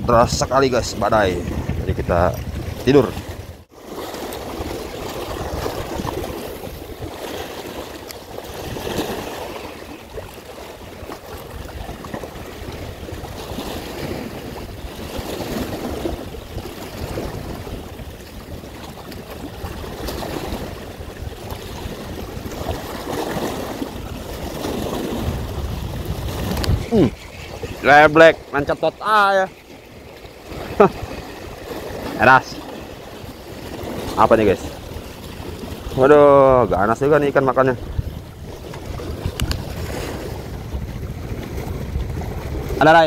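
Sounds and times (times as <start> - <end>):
waves splashing against rocks: 0.0 - 43.0.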